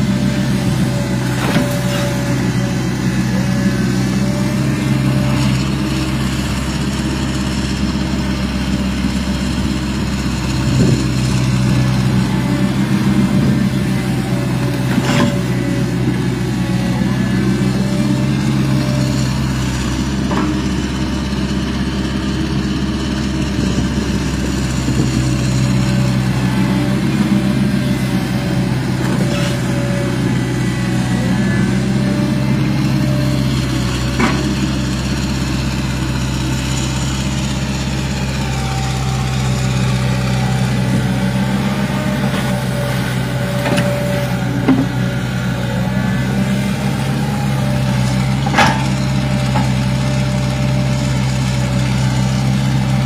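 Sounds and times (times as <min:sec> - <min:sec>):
excavator diesel engine humming: 0:00.0 - 0:53.0.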